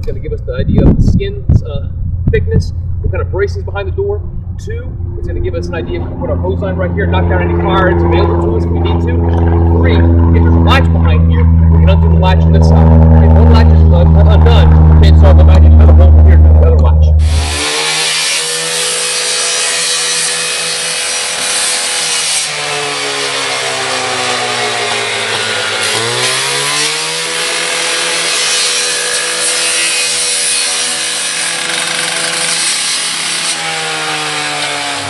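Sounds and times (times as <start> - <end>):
gas-powered saw cutting metal panel: 5.2 - 35.0.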